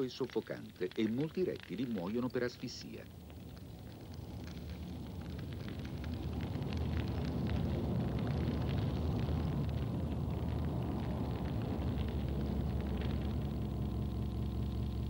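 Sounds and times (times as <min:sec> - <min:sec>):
burning twigs crackling: 0:00.0 - 0:15.0
flames rumbling: 0:00.0 - 0:15.0.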